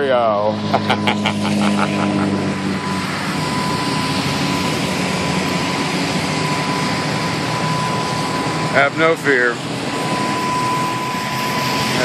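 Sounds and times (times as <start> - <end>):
road traffic rushing: 0.0 - 12.0
vehicle engine hum: 0.0 - 12.0.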